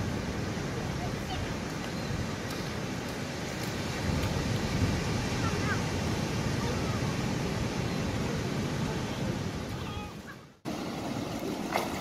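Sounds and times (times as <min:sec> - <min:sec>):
wind on microphone: 0:00.0 - 0:10.3
ocean surf: 0:00.0 - 0:12.0.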